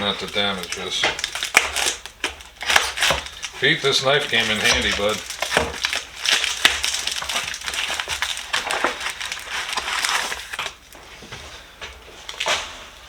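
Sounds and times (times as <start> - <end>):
packaging crackling and tearing: 0.0 - 11.0.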